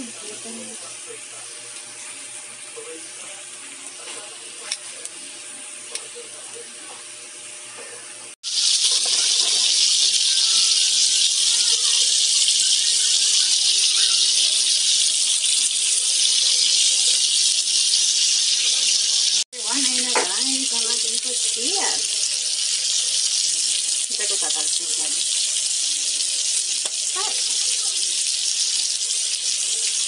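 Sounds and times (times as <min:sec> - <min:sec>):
food sizzling on grill pan: 0:00.0 - 0:30.0.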